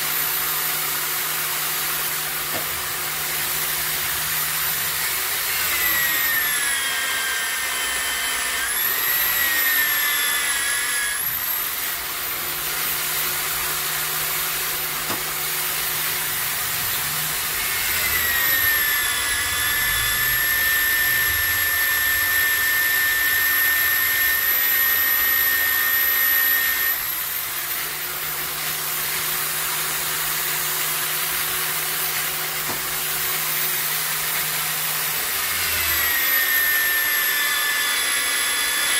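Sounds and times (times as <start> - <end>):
electric drill boring metal: 0.0 - 38.9.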